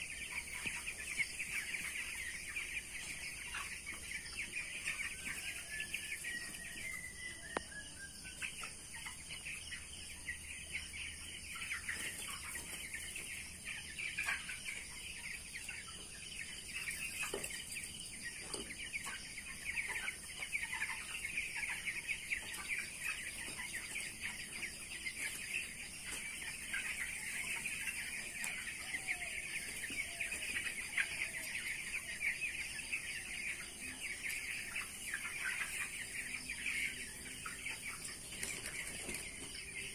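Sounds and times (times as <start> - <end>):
chick falling calls: 0.0 - 39.9
chicks peeping: 0.0 - 39.9.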